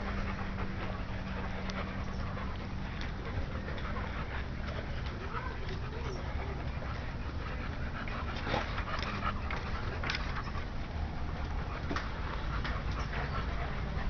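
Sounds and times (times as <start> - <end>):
dog panting: 0.0 - 14.0
steady low hum: 0.0 - 14.0.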